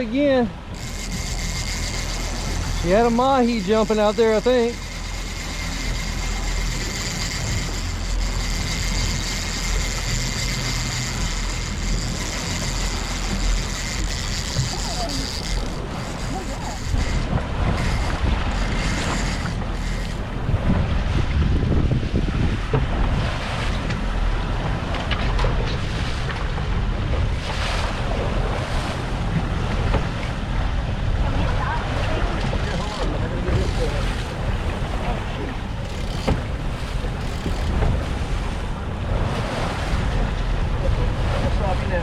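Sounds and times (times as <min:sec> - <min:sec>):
boat motor running: 0:00.0 - 0:42.0
wind and water noise: 0:00.0 - 0:42.0.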